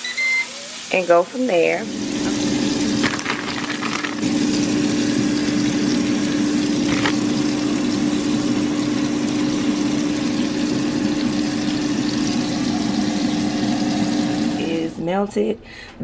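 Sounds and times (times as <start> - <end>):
appliance fan humming: 0.0 - 16.0
burger patties sizzling in pan: 0.4 - 14.4.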